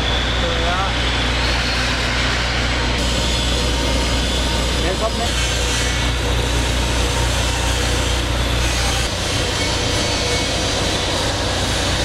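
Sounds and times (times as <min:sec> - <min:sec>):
machinery drone with hiss: 0:00.0 - 0:12.0.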